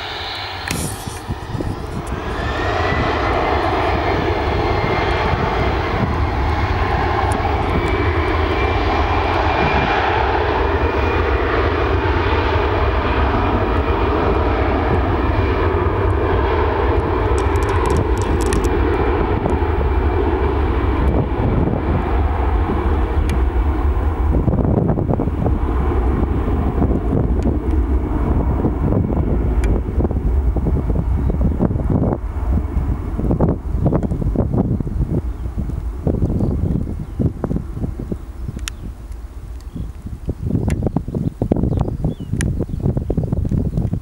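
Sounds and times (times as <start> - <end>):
jet engines spooling up: 0.0 - 41.5.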